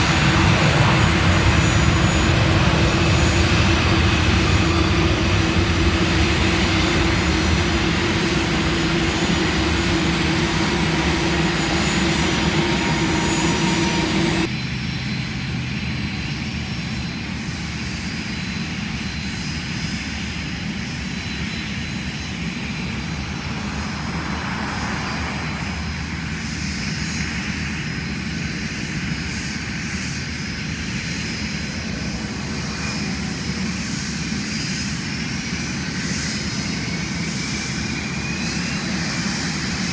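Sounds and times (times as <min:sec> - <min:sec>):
distant jet on approach: 0:00.0 - 0:39.9
jet engines droning: 0:00.0 - 0:39.9.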